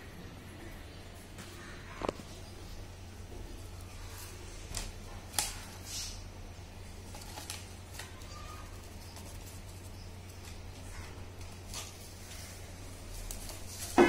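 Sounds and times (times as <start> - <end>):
low steady hum: 0.0 - 14.0
stiff paper rustling: 1.5 - 14.0.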